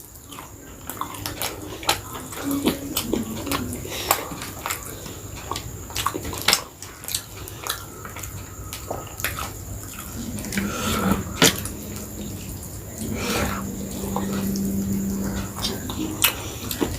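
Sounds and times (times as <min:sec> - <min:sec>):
chewing and wet mouth sounds: 0:00.0 - 0:16.9.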